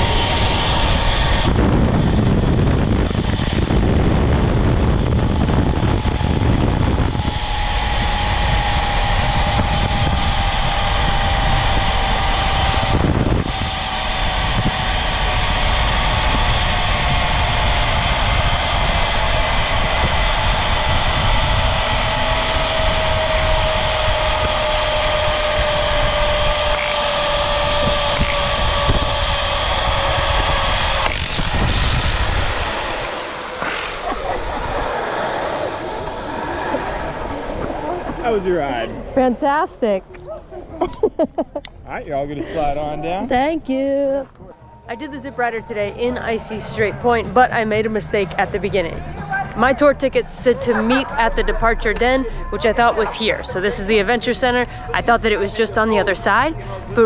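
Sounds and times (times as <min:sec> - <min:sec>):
wind rushing over microphone: 0:00.0 - 0:57.0
zipline trolley whining on cable: 0:00.0 - 0:57.0.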